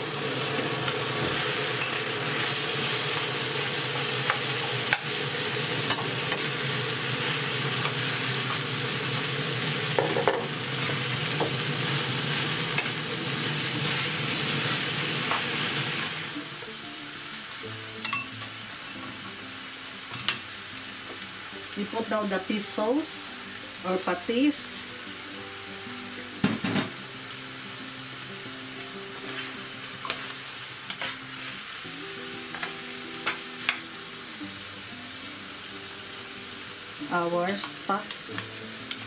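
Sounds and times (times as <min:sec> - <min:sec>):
meat sizzling in a frying pan: 0:00.0 - 0:39.0.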